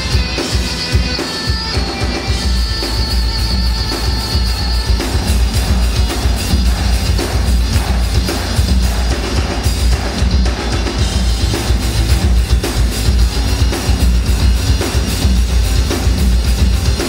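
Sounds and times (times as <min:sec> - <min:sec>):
heavy bass drum: 0:00.0 - 0:17.0
heavy metal on amplified cellos: 0:00.0 - 0:17.0
rock drum kit: 0:00.0 - 0:17.0.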